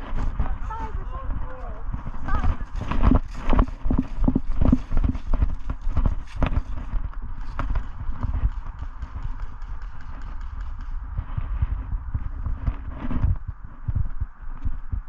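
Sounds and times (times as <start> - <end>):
running footsteps on ground: 0.0 - 15.0
gear rustling and knocking: 1.8 - 14.8.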